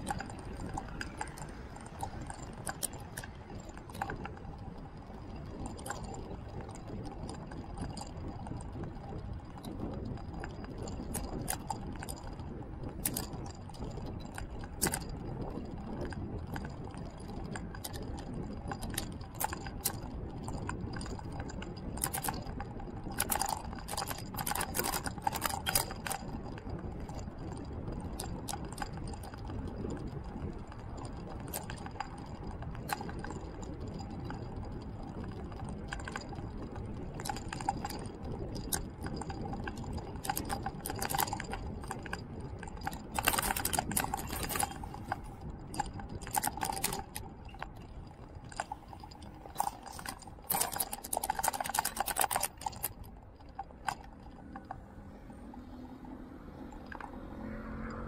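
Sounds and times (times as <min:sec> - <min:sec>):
clicking and crackling: 0:00.0 - 0:58.0
faint steady whine: 0:00.0 - 0:58.0
low road rumble: 0:00.0 - 0:58.0.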